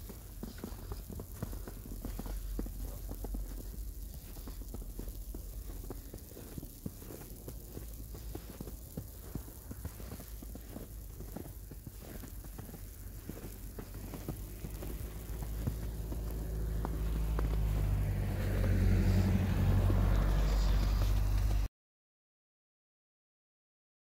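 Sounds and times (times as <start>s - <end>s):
crackling ticks: 0.0s - 21.7s
low hum: 0.0s - 21.7s
vehicle engine drone: 0.0s - 21.7s.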